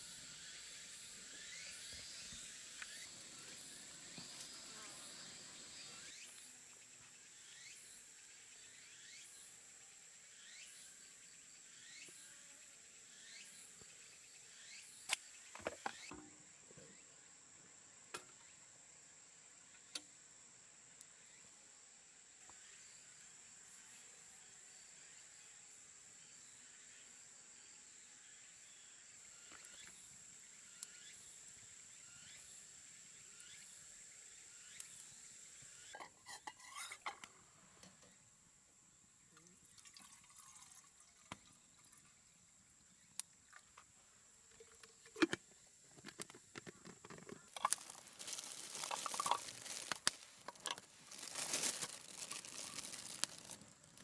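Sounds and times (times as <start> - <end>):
insect chirp: 0.0 - 54.0
insects droning: 0.0 - 54.0.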